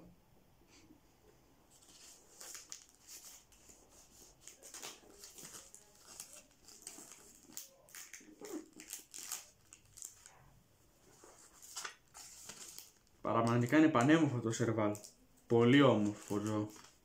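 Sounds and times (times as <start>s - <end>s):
plastic sleeves crinkling: 1.7s - 17.0s.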